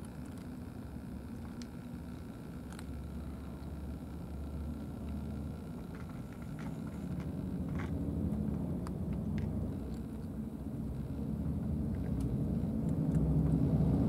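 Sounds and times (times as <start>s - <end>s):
steady low rumble: 0.9s - 14.0s.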